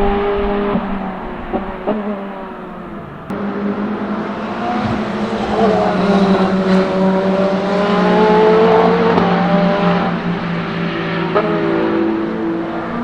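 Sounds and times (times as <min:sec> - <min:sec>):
race car accelerating and upshifting: 0:00.0 - 0:13.0.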